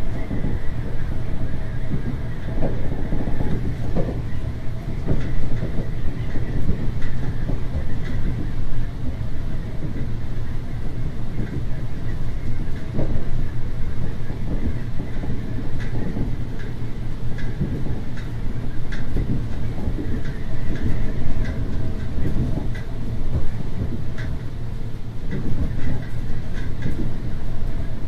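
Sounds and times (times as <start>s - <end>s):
railcar rumbling: 0.0s - 28.0s
wheels clicking over rail joints: 1.8s - 28.0s.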